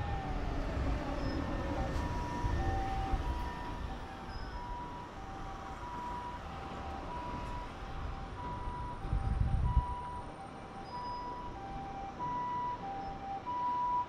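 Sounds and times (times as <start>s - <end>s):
two-tone emergency siren: 0.0s - 14.0s.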